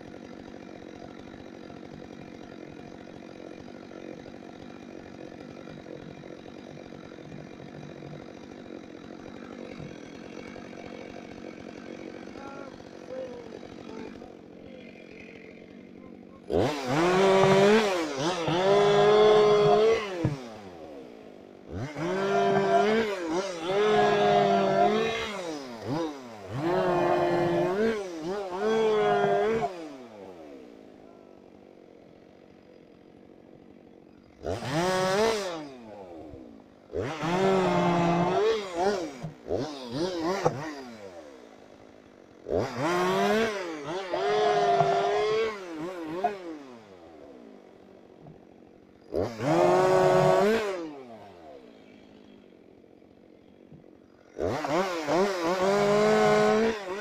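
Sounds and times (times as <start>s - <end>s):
chainsaw cutting: 0.0s - 57.0s
chainsaw idling: 0.0s - 57.0s.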